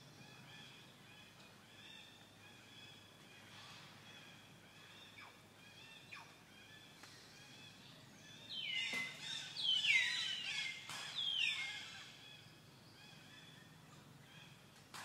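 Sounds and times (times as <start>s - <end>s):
faint background chirping: 0.0s - 15.0s.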